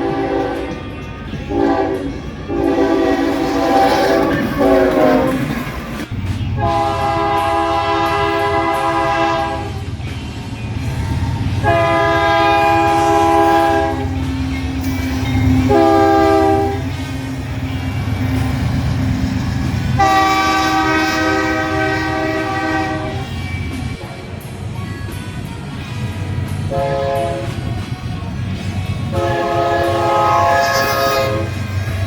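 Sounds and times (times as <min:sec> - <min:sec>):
locomotive air horn blasts: 0:00.0 - 0:05.6, 0:06.6 - 0:09.9, 0:11.0 - 0:24.3, 0:26.7 - 0:27.7, 0:29.1 - 0:32.0
higher-pitched train horn: 0:00.0 - 0:05.8, 0:06.6 - 0:10.0, 0:10.8 - 0:24.6, 0:26.6 - 0:32.0
passing train rumble: 0:00.0 - 0:32.0.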